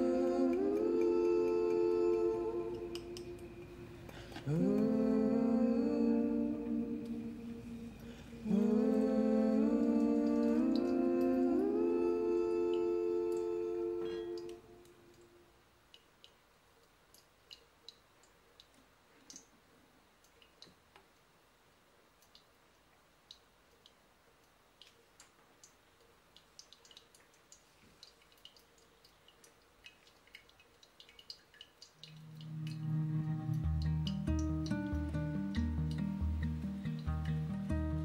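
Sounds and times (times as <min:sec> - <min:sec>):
water dripping: 0:00.0 - 0:21.4, 0:22.0 - 0:38.0.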